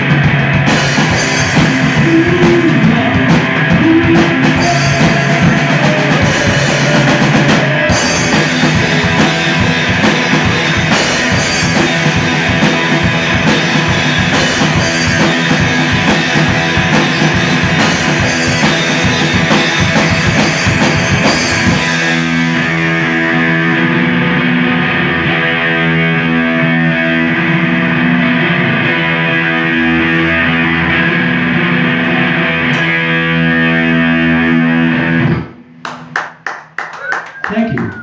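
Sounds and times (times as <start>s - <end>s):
electric guitars and bass chord: 0.0s - 35.8s
drums: 0.0s - 38.0s.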